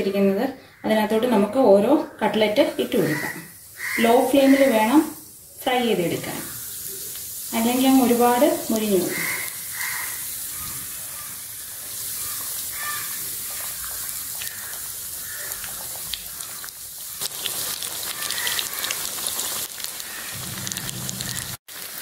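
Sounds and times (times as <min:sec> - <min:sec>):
food sizzling in oil: 0:02.3 - 0:22.0.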